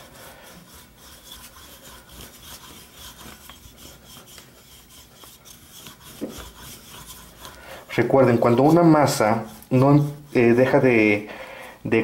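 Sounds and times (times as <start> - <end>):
rolling pin rubbing over dough: 0.0 - 12.0.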